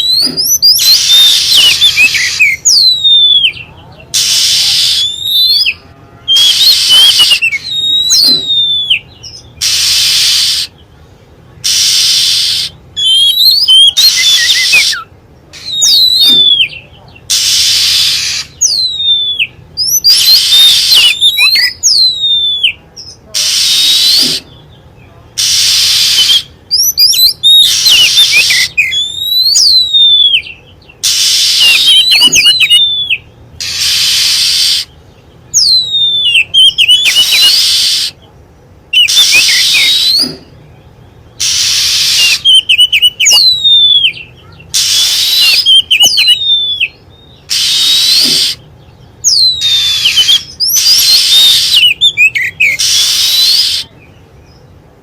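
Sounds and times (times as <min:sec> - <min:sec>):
recorded bird song: 0:00.0 - 0:55.0.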